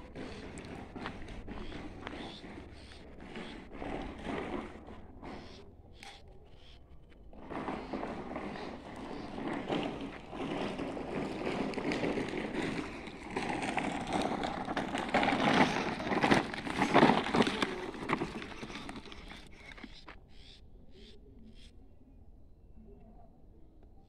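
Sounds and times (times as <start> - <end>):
bicycle tyres rolling on dirt: 0.0 - 20.1.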